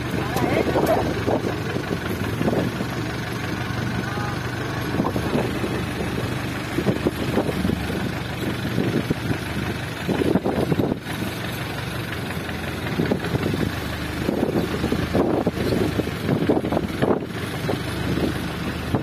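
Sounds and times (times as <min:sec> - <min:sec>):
boat engine humming: 0:00.0 - 0:19.0
rushing wind: 0:00.0 - 0:19.0.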